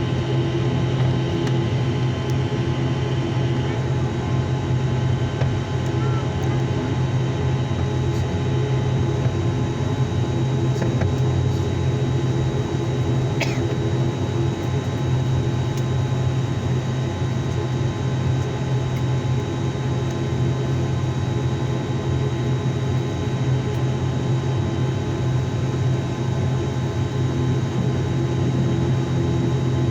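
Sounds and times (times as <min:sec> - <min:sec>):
turboprop engines droning: 0:00.0 - 0:29.9.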